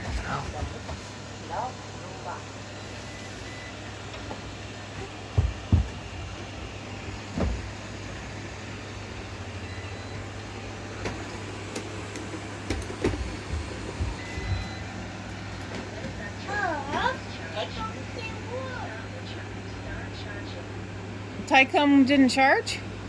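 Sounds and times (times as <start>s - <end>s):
robot vacuum humming: 0.0s - 21.3s.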